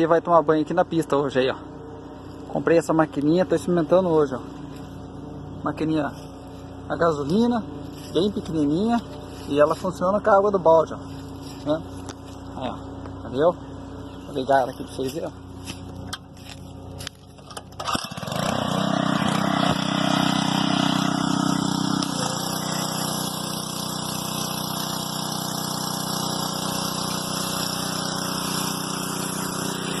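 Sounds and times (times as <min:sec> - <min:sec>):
pressure washer engine running: 0:00.0 - 0:30.0.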